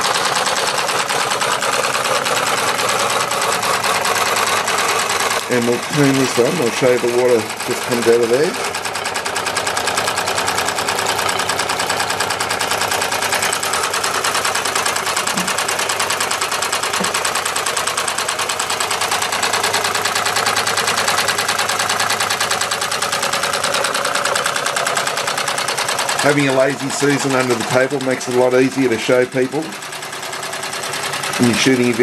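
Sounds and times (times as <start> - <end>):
model steam engine clattering: 0.0 - 32.0.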